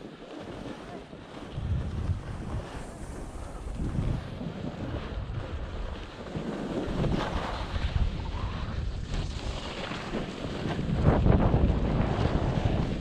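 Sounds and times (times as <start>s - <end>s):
wind rushing over microphone: 0.0s - 13.0s
skis scraping over crusty snow: 0.1s - 13.0s.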